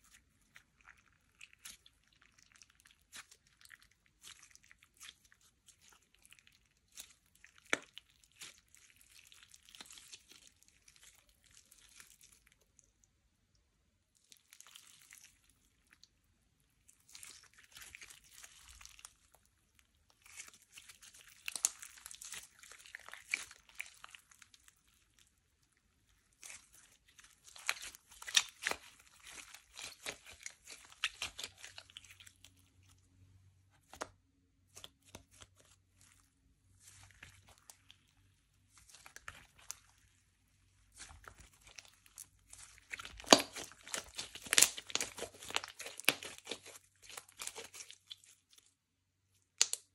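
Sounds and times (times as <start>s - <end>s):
slime crackling and popping: 0.1s - 12.8s, 16.8s - 33.0s, 33.8s - 48.7s, 49.4s - 49.9s.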